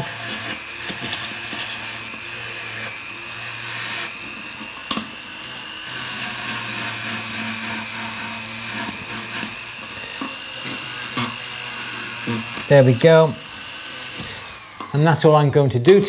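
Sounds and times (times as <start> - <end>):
rotary tool whining: 0.0 - 15.2.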